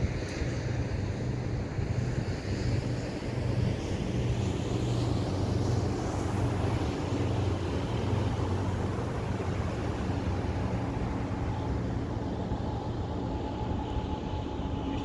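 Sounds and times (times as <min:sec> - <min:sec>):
ship engine drone: 0:00.0 - 0:15.0.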